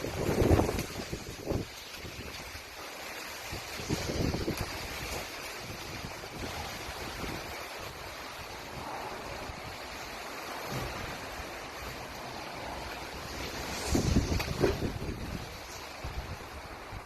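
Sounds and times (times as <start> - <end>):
strong wind buffeting microphone: 0.0 - 2.8, 3.4 - 17.0.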